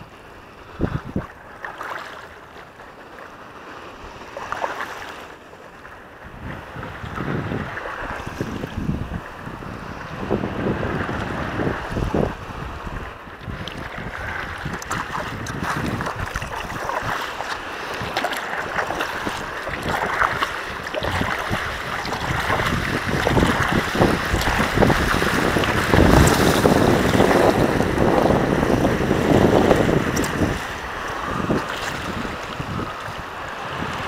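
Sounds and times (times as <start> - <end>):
wind buffeting microphone: 0.0 - 1.5, 6.0 - 34.0
water splashing along a paddleboard: 0.0 - 34.0.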